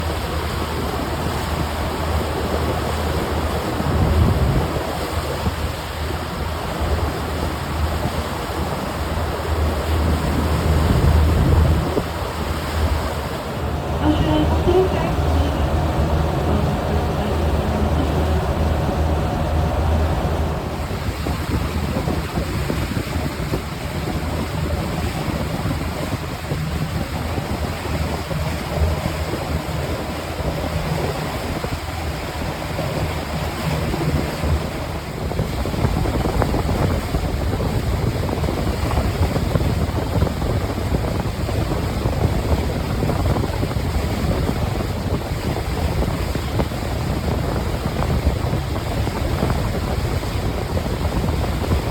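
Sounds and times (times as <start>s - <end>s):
motorboat engine running: 0.0s - 51.9s
water rushing past hull: 0.0s - 51.9s
wind buffeting microphone: 0.0s - 51.9s.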